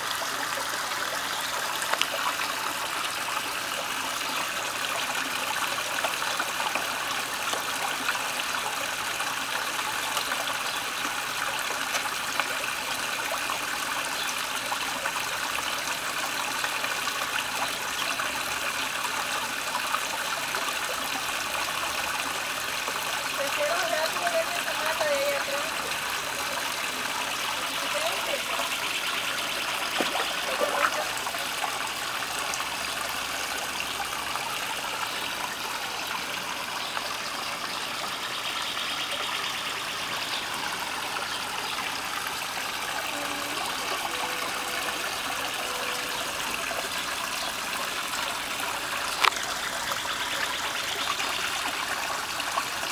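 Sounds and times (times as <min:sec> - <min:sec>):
waterfall splashing into pond: 0:00.0 - 0:52.9.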